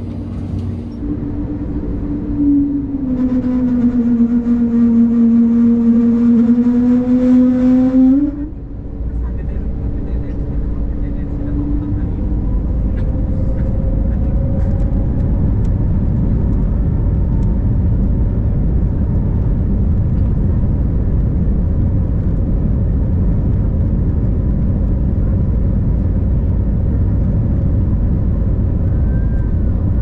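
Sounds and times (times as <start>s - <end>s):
airliner cabin rumble: 0.0s - 30.0s
faint steady engine tones: 0.0s - 30.0s.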